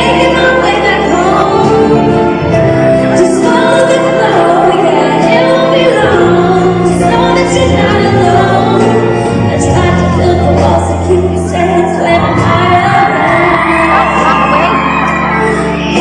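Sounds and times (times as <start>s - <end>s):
live band accompaniment: 0.0s - 16.0s.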